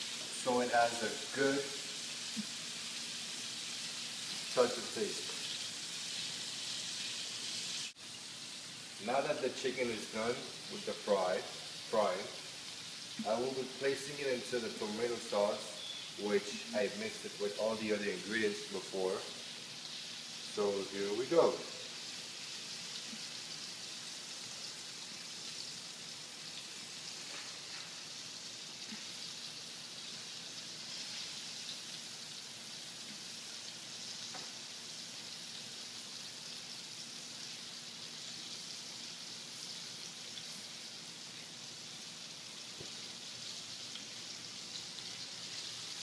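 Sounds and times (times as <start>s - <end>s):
hot oil sizzling in a frying pan: 0.0s - 46.0s.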